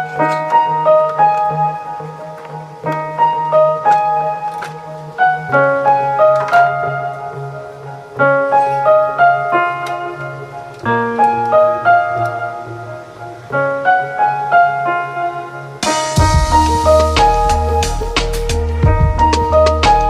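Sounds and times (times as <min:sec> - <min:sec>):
calm piano melody: 0:00.0 - 0:20.0.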